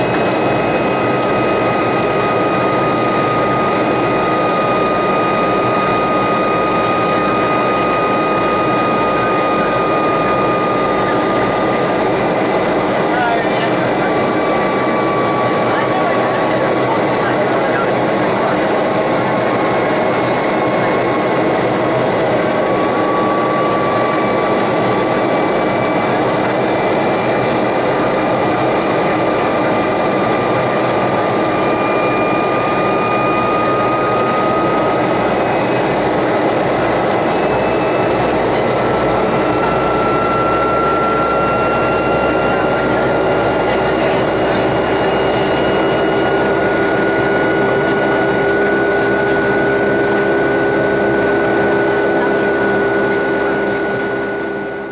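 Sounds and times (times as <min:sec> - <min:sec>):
jet engine rush in cabin: 0:00.0 - 0:54.9
thin engine whine: 0:00.0 - 0:54.9.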